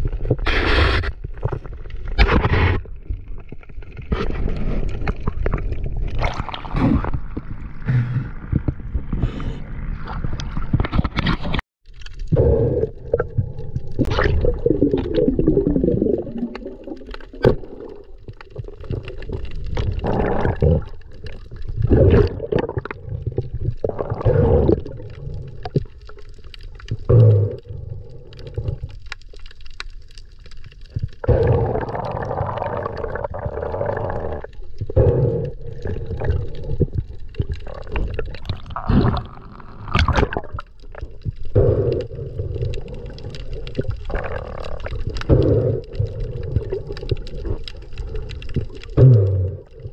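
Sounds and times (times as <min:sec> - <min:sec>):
muffled underwater rushing water: 0:00.0 - 0:49.9.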